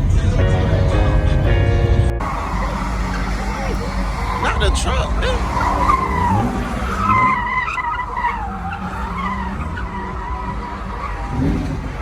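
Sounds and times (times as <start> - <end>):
car engine running hard: 0.0 - 12.0
car tyres squealing: 2.0 - 12.0.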